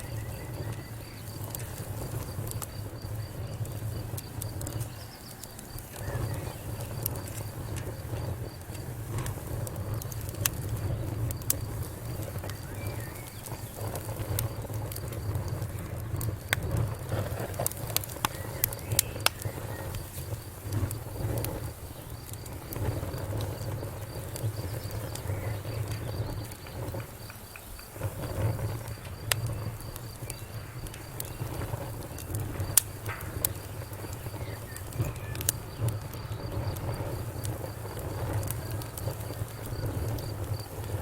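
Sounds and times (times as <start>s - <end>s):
low rumble of burning fire: 0.0s - 41.0s
wood fire crackling and popping: 0.0s - 41.0s.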